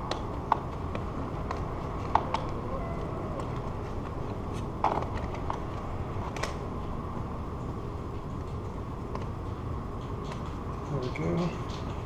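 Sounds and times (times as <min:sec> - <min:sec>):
weather stripping clicking and knocking: 0:00.0 - 0:07.0, 0:07.6 - 0:12.0
low background noise: 0:00.0 - 0:12.0.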